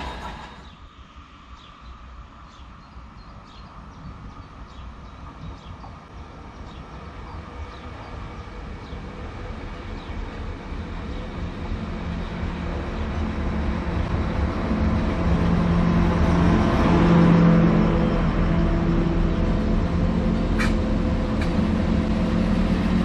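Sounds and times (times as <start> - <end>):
diesel train arriving: 0.0 - 1.6, 3.8 - 23.0.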